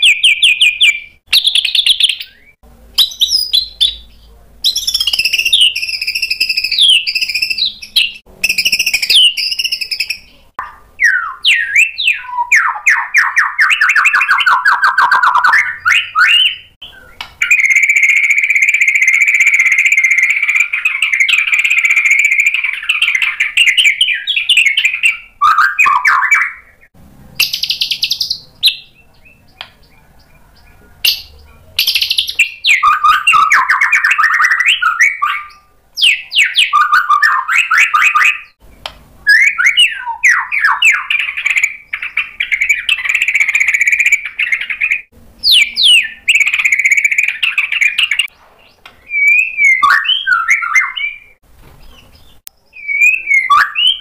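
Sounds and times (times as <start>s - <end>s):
bird singing trills and whistles: 0.0s - 54.0s.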